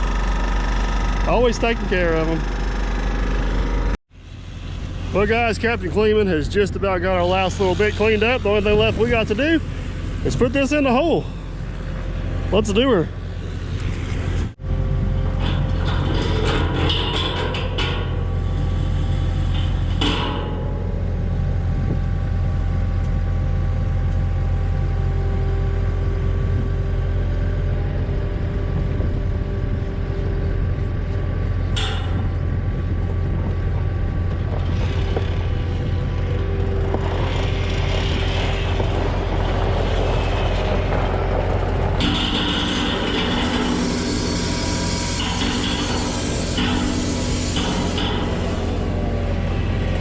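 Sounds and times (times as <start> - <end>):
diesel engine running under load: 0.0 - 50.0.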